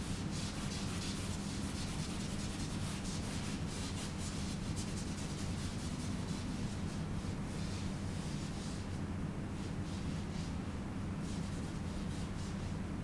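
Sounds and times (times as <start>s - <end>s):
paintbrush scrubbing a wall: 0.0s - 9.0s, 9.6s - 12.8s.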